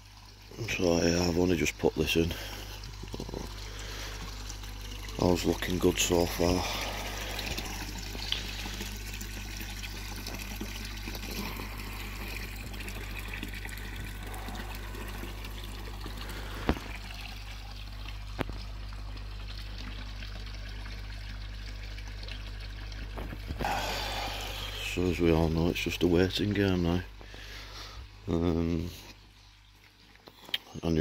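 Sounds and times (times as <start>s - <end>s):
pond water trickling and splashing: 0.0s - 31.0s.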